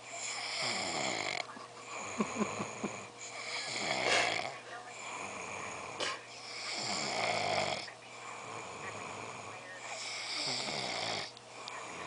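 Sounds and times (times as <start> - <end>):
person snoring: 0.1 - 12.0.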